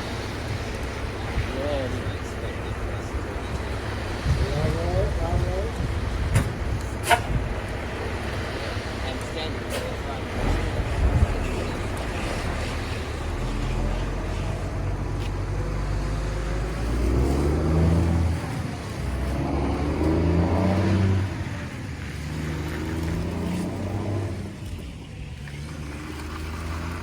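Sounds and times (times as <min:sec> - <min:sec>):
heavy engine revving: 0:00.0 - 0:27.0.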